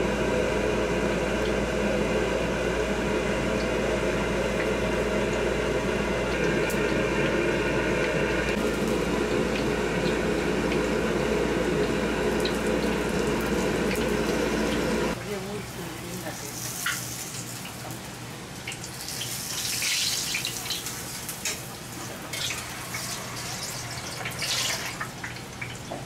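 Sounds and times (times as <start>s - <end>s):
kitchen hum: 0.0s - 26.0s
oil bubbling and sizzling: 2.6s - 15.2s, 16.2s - 26.0s.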